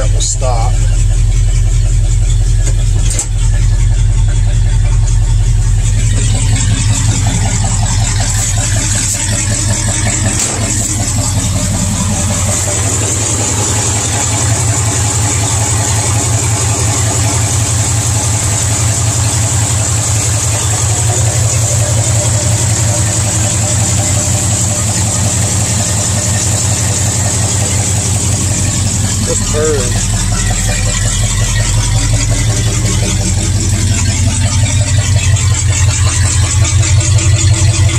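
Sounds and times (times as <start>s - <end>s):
engine idling: 0.0s - 37.9s.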